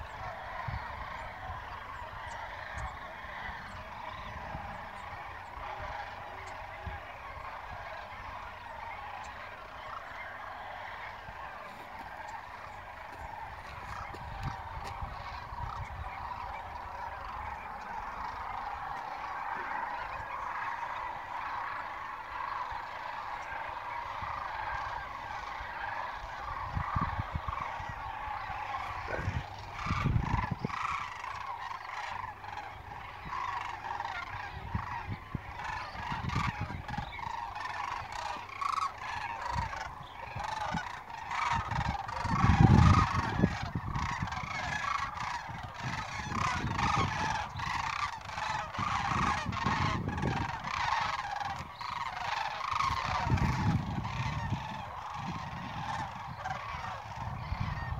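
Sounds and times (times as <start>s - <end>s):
geese honking overhead: 0.0s - 57.9s.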